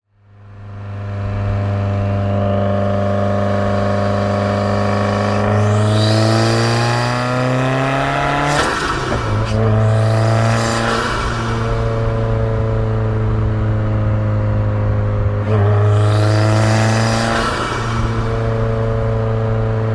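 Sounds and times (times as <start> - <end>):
car engine accelerating: 0.2 - 19.9.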